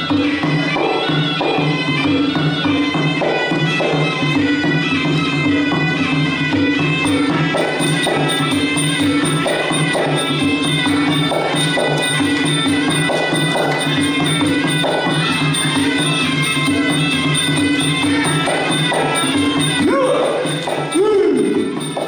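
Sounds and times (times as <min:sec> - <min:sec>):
reedy wind instrument melody: 0:00.0 - 0:22.0
small cymbals: 0:00.0 - 0:22.0
steady drum beat: 0:00.0 - 0:22.0.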